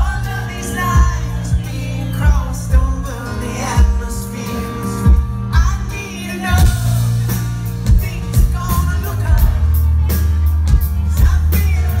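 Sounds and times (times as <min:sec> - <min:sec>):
drum kit beat: 0:00.0 - 0:12.0
man singing: 0:00.0 - 0:12.0.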